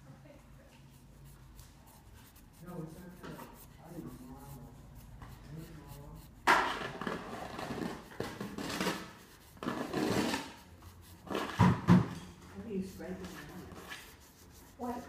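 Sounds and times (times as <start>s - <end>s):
marker scratching on paper: 0.3s - 15.0s.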